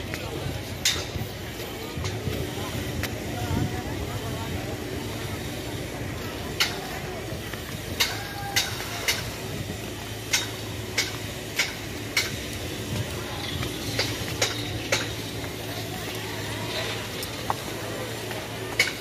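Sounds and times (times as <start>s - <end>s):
faint voices: 0.0s - 19.0s.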